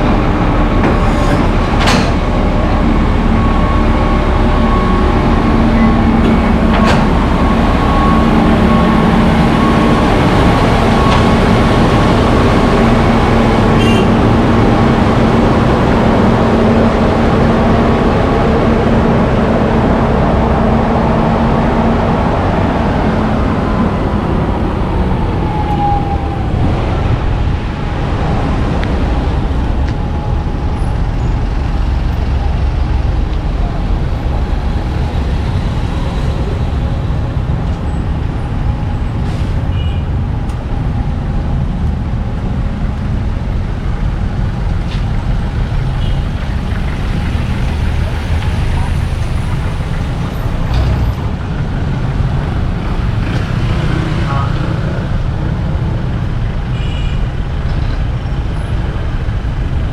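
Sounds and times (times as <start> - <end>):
road traffic rumble: 0.0 - 59.9
vehicle engine hum: 0.0 - 59.9.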